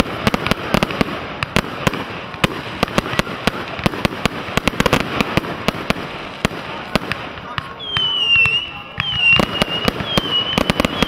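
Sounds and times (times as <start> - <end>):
firework shells bursting: 0.0 - 11.0
fireworks crackling: 0.0 - 11.0.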